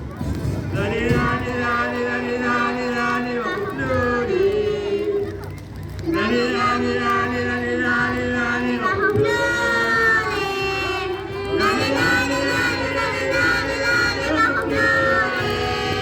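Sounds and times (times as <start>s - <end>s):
young voices chanting: 0.7s - 16.0s.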